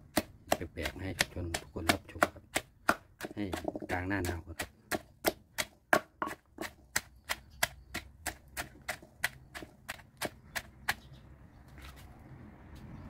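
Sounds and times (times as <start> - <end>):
pestle pounding in a mortar: 0.0 - 11.1.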